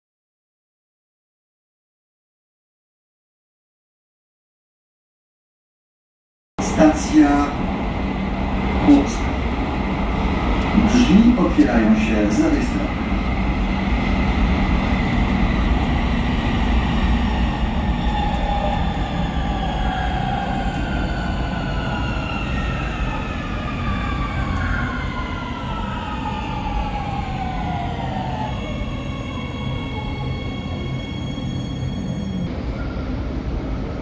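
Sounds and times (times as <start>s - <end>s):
low rumble of train wheels: 6.6s - 34.0s.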